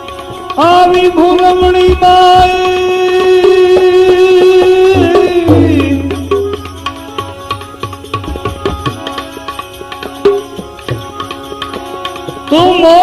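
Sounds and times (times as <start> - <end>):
held accompaniment notes: 0.0 - 13.0
tabla strokes: 0.0 - 13.0.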